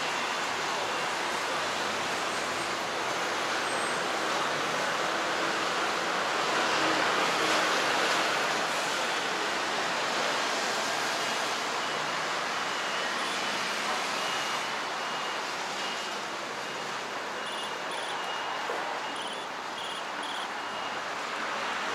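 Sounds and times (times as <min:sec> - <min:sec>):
busy road traffic: 0:00.0 - 0:21.9.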